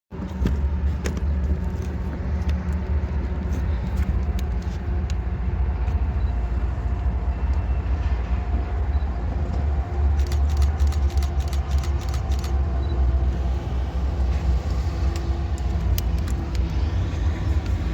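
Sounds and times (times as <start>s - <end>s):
diesel locomotive rumble: 0.1s - 17.9s.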